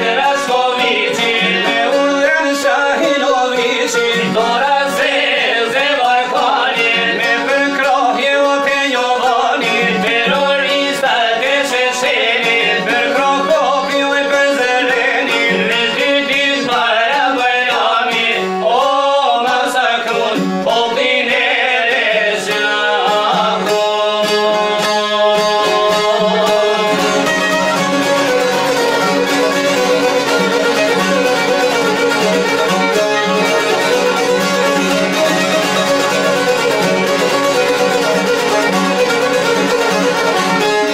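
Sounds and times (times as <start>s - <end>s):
man singing: 0.0s - 40.9s
violin and plucked lutes: 0.0s - 40.9s.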